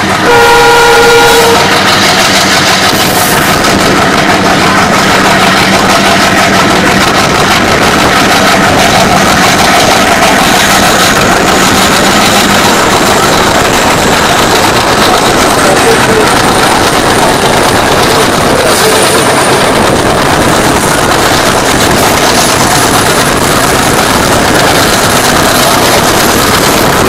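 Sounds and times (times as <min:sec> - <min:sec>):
diesel engine drone: 0:00.0 - 0:27.0
train running noise: 0:00.0 - 0:27.0.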